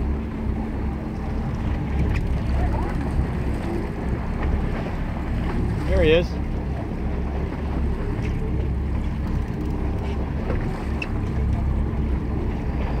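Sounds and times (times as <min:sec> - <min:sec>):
fishing boat engine rumble: 0:00.0 - 0:13.0.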